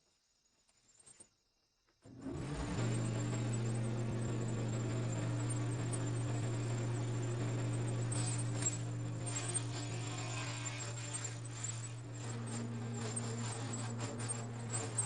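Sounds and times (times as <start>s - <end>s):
low mechanical hum: 2.0s - 15.0s.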